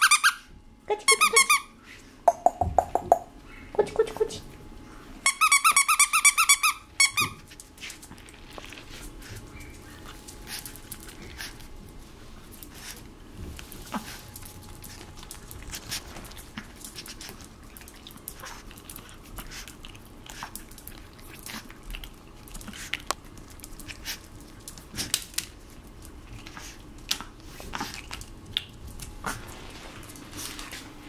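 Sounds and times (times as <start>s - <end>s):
puppy gnawing on a chew stick: 5.4s - 31.0s.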